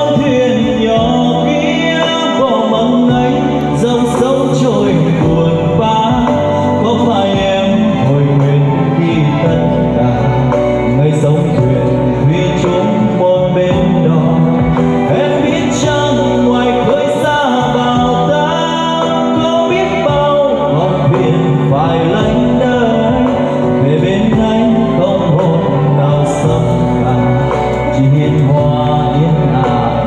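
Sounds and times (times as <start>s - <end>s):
instrumental backing music: 0.0s - 30.0s
man singing into a microphone: 0.0s - 30.0s.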